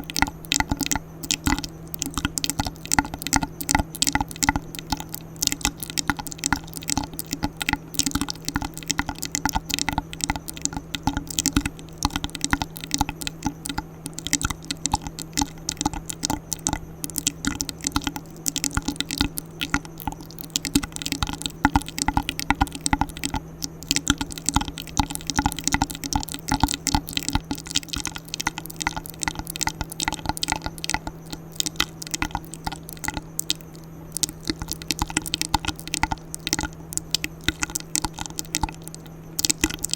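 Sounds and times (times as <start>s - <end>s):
wet mouth clicks and pops: 0.0s - 39.9s.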